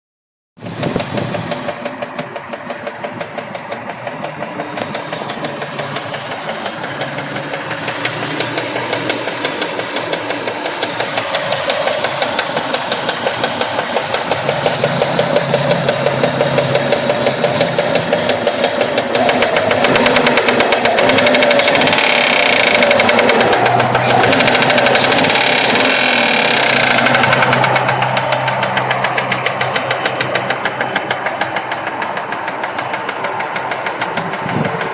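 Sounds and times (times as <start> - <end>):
car engine running: 0.6 - 34.9
fast ticking engine knock: 0.7 - 34.9.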